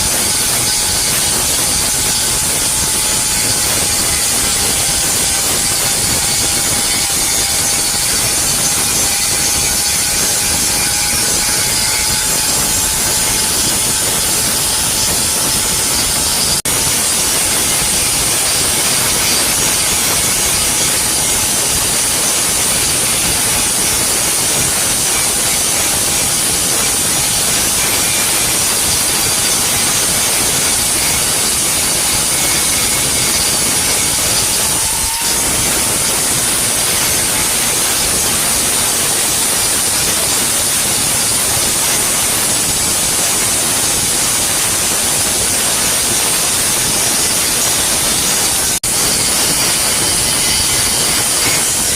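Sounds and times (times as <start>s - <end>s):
welding arc hiss and crackle: 0.0s - 51.9s.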